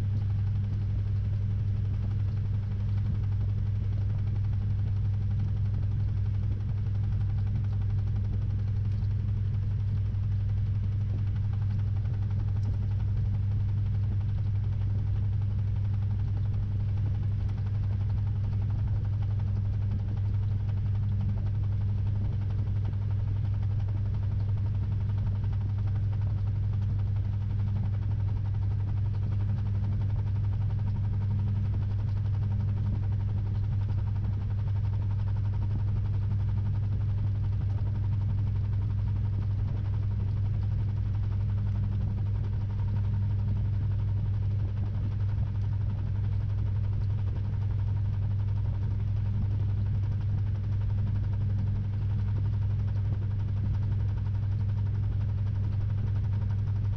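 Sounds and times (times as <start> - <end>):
washing machine running: 0.0 - 56.9.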